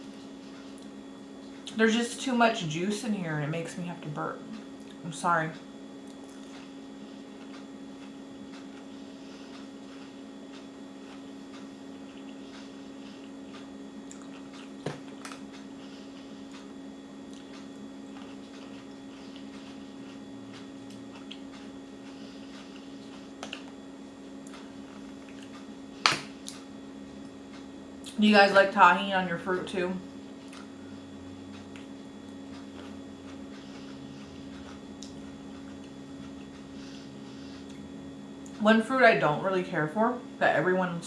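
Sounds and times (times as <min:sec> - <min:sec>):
chewing juicy fruit: 0:00.0 - 0:01.8, 0:04.0 - 0:28.2, 0:29.6 - 0:38.6
steady low hum: 0:00.0 - 0:41.0.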